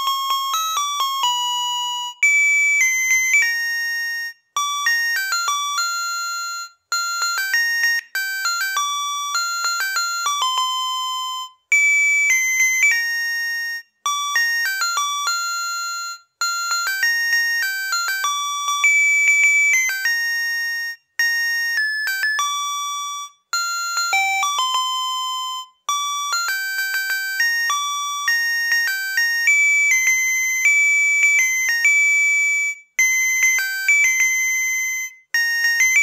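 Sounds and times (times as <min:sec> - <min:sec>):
electronic alarm clock melody beeps: 0:00.0 - 0:36.0.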